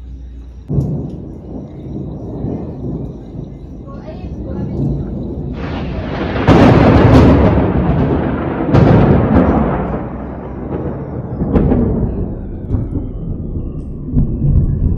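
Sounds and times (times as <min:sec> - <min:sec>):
thunder claps rumbling: 0:00.0 - 0:14.9.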